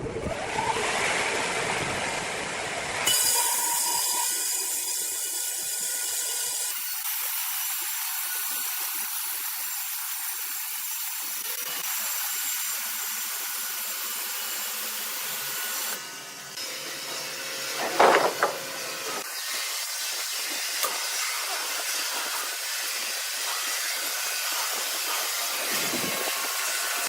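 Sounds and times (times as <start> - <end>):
saw cutting through wood: 0.3 - 27.0.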